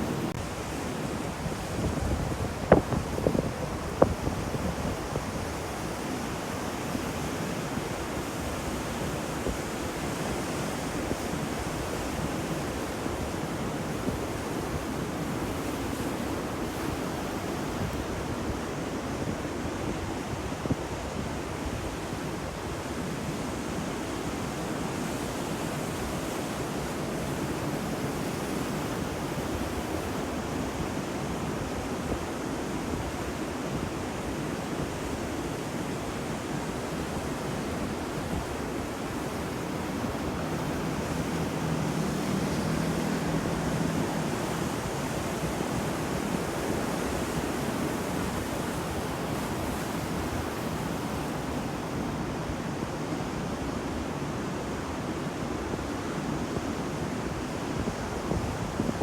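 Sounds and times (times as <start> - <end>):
sea surf washing on shore: 0.0 - 59.0.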